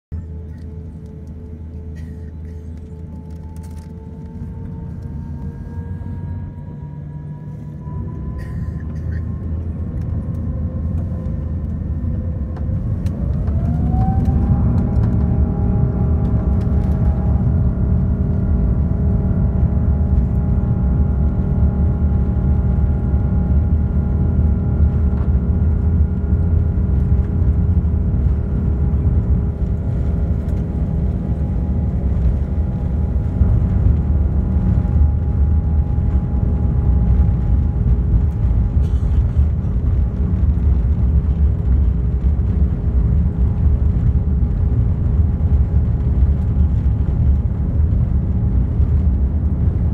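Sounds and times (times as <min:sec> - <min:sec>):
jet engine whine: 0:00.1 - 0:49.9
low rumble of takeoff roll: 0:00.1 - 0:49.9.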